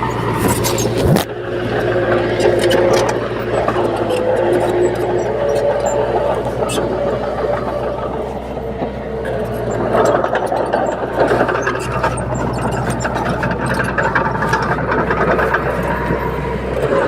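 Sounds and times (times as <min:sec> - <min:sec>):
bulldozer diesel engine running: 0:00.0 - 0:17.0
steel tracks clanking: 0:00.0 - 0:17.0.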